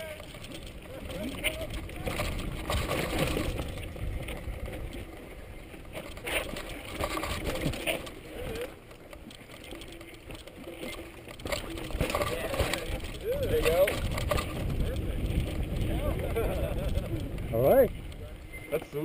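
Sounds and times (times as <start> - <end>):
wind on microphone: 0.0 - 8.8, 11.4 - 18.7
mountain bike rattling over rocks: 0.0 - 19.0.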